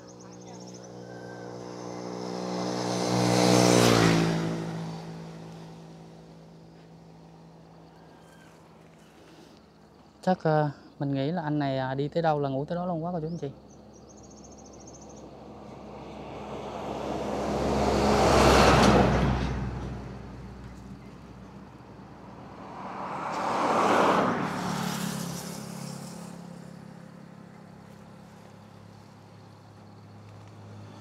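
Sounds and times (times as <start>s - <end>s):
vehicles passing by: 0.0s - 31.0s.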